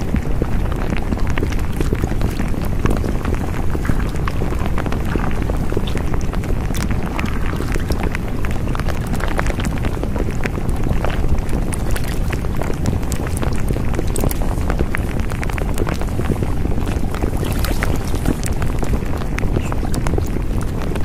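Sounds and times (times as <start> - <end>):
short crackles: 0.0 - 21.0.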